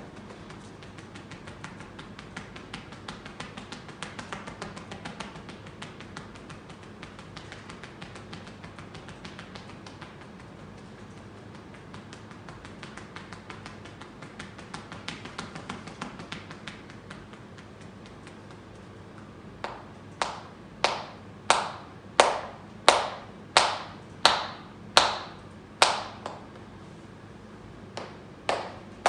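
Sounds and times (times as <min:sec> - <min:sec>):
light finger taps: 0:00.0 - 0:26.7.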